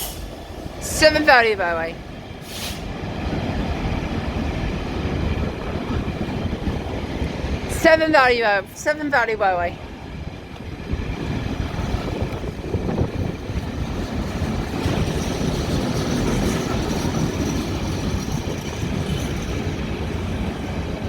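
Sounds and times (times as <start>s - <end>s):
freight train wagons rumbling: 0.0s - 21.0s.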